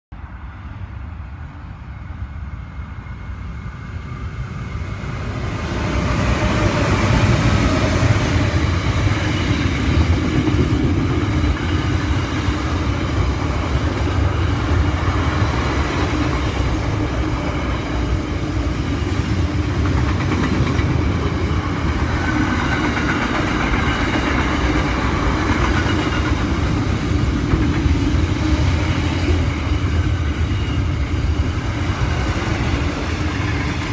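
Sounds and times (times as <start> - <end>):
diesel locomotives rumbling: 0.2 - 33.9.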